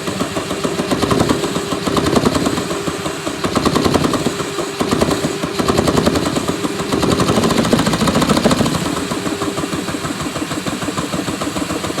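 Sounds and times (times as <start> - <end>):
engine exhaust chatter: 0.0 - 12.0.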